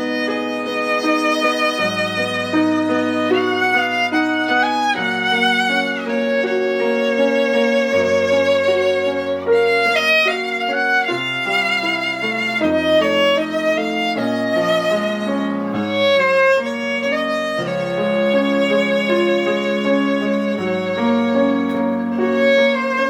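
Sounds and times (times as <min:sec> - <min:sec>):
piano chords: 0:00.0 - 0:23.0
violin melody with vibrato: 0:00.0 - 0:23.0.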